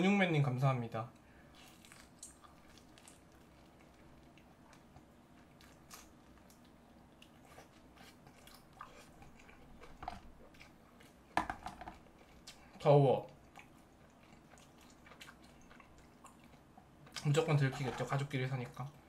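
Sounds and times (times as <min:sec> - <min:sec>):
chewing crispy fried pork: 0:01.1 - 0:19.0.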